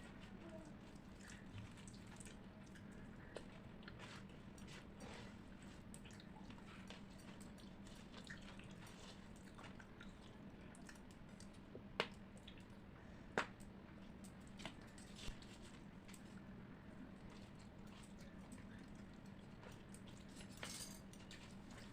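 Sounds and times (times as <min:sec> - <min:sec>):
wet eating sounds: 0:00.0 - 0:21.9.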